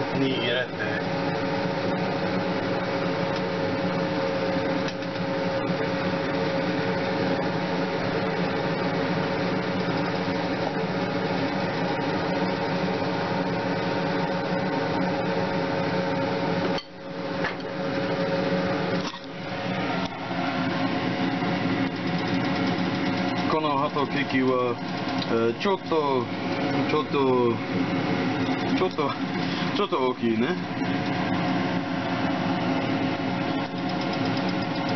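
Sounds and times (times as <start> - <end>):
kitchen exhaust fan humming: 0.0 - 34.9.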